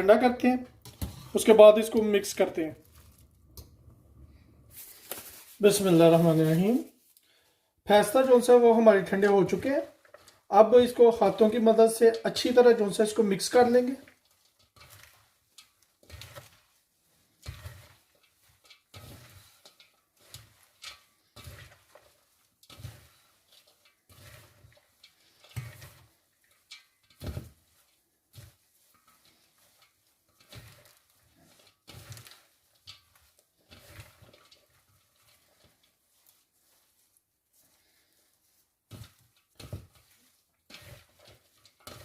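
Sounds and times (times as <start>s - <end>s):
pasta salad squishing in bowl: 0.1s - 42.0s.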